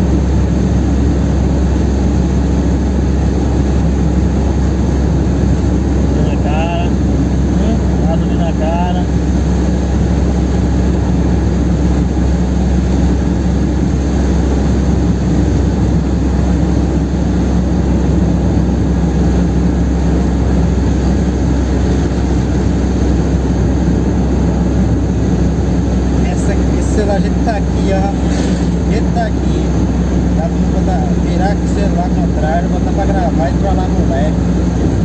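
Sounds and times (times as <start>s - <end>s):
car engine droning at full throttle: 0.0s - 35.0s.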